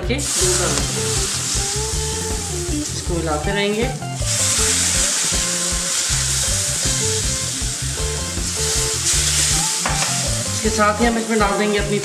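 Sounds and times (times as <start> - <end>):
background music: 0.0 - 12.0
milk sizzling in a pan: 0.0 - 12.0.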